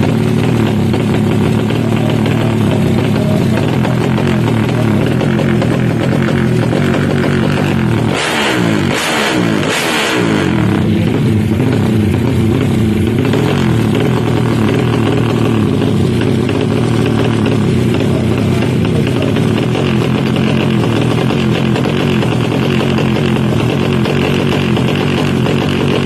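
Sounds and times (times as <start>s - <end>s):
motorcycle engine revving: 0.0s - 26.0s
motorcycle engine running: 0.0s - 26.0s.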